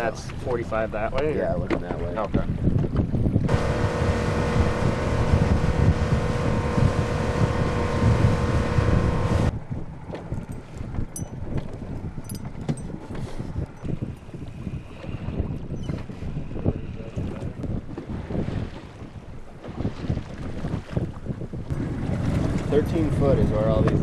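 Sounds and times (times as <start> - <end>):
water rushing against hull: 0.0 - 24.0
wind: 0.0 - 24.0
outboard motor running: 3.2 - 24.0.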